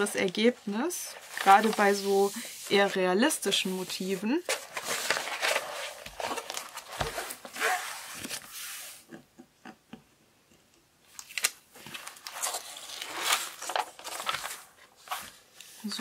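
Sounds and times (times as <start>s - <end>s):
plastic film rustling and crinkling: 0.0s - 8.8s, 11.2s - 16.0s.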